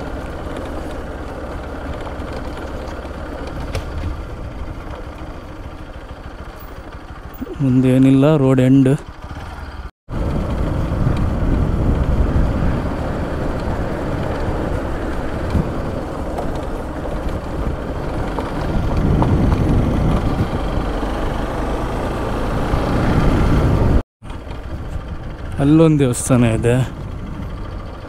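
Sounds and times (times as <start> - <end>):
wind and road noise rumble: 0.0 - 28.0.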